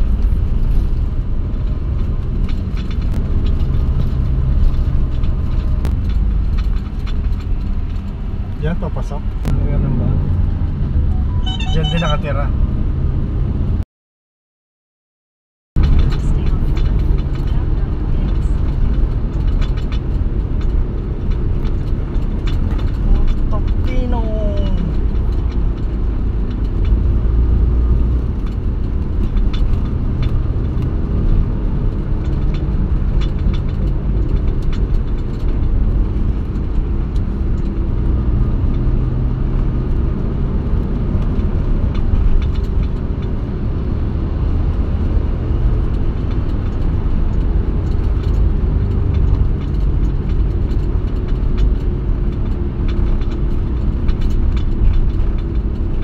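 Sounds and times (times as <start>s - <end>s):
car engine and tyre rumble: 0.0s - 13.8s, 15.8s - 56.0s.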